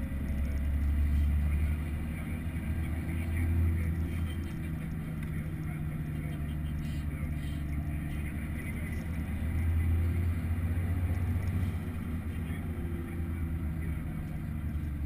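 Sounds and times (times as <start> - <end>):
tractor diesel engine droning: 0.0 - 15.0.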